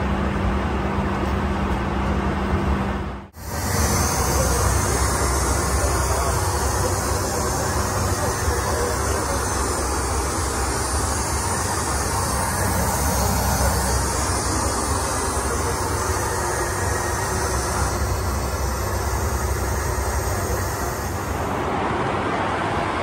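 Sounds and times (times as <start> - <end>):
airflow hiss: 3.4 - 23.0.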